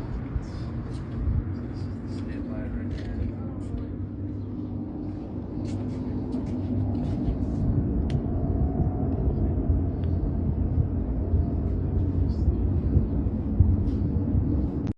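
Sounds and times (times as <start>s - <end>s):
low rumbling noise: 0.0s - 14.9s.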